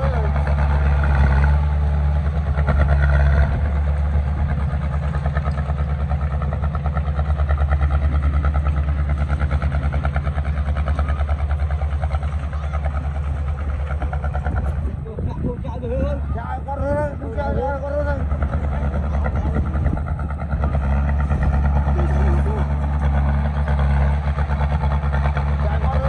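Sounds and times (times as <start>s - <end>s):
diesel engine throbbing: 0.0s - 26.0s.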